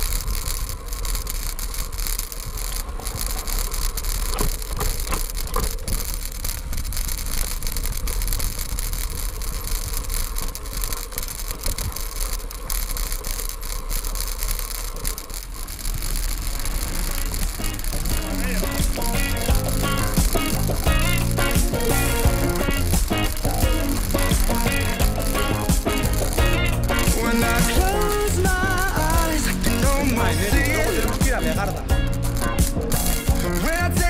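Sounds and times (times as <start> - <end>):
bike rattling over bumps: 0.0 - 34.0.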